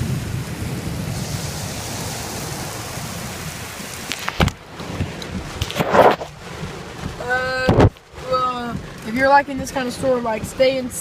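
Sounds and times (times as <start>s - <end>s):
heavy rain on a car: 0.0s - 11.0s.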